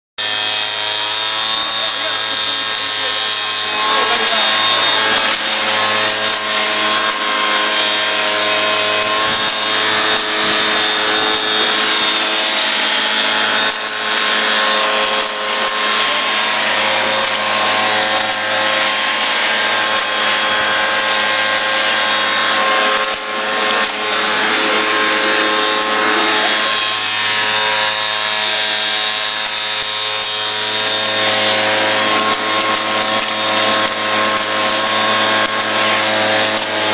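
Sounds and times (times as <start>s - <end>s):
small engine running steadily: 0.2s - 36.9s.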